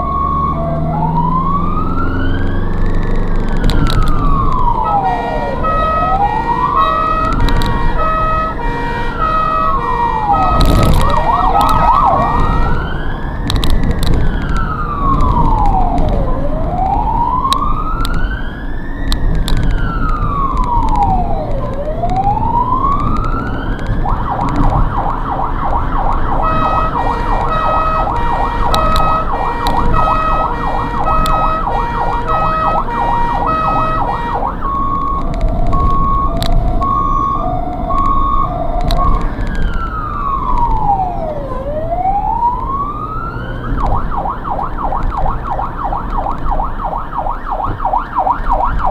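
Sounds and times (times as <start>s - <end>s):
ambulance siren wailing and yelping: 0.0s - 48.9s
road noise: 0.0s - 48.9s.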